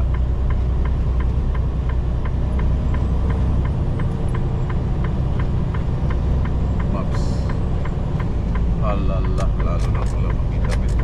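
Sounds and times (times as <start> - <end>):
light regular ticking: 0.0 - 11.0
truck engine and road rumble: 0.0 - 11.0.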